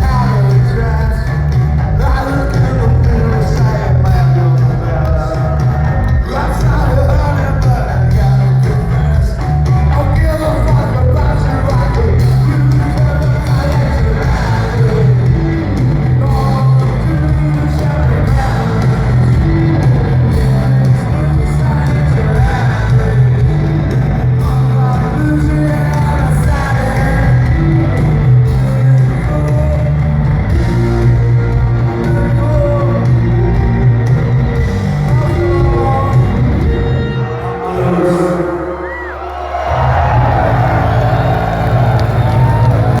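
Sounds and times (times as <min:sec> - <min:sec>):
person singing: 0:00.0 - 0:34.3, 0:34.9 - 0:39.2
live rock band playing: 0:00.0 - 0:38.5, 0:39.7 - 0:43.0.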